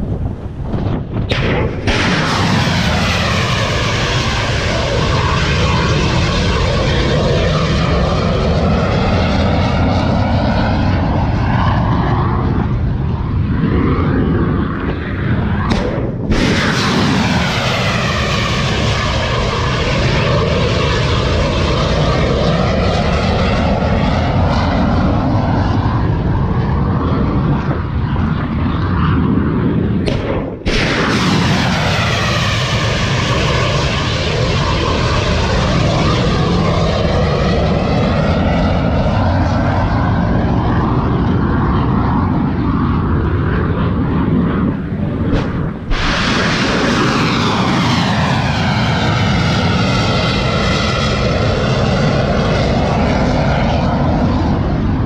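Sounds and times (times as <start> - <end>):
rocket booster rushing roar: 0.0 - 55.0.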